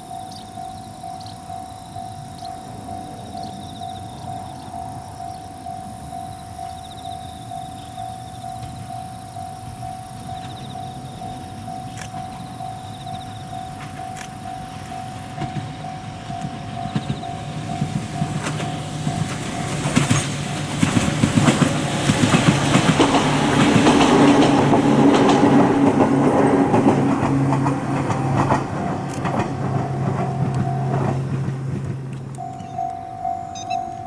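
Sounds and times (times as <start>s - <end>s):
electric train motor hum: 0.0s - 34.0s
train wheels clacking over rail joints: 1.5s - 33.1s.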